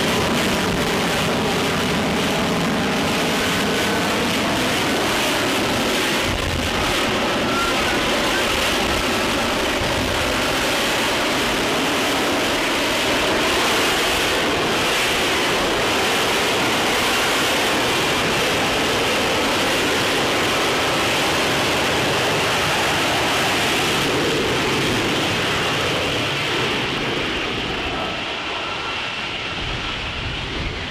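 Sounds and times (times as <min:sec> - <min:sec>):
loud jet engine rushing: 0:00.0 - 0:30.9.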